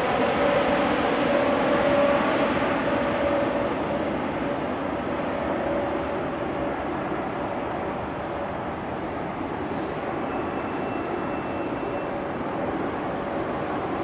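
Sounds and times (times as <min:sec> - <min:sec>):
jet airliner rumble: 0:00.0 - 0:14.0.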